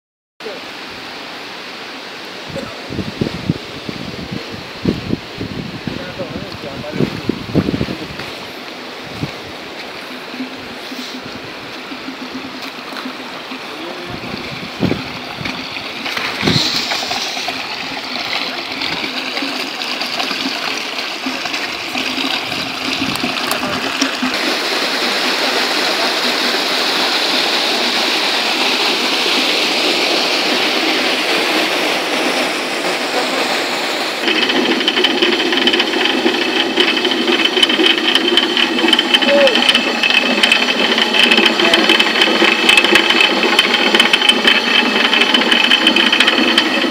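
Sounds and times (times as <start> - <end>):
water rushing: 0.4 - 46.9
mill mechanical rattle: 7.7 - 46.9.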